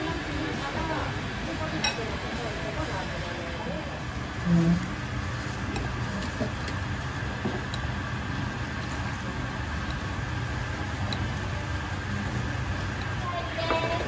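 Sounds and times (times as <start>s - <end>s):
kitchen equipment roar: 0.0s - 14.0s.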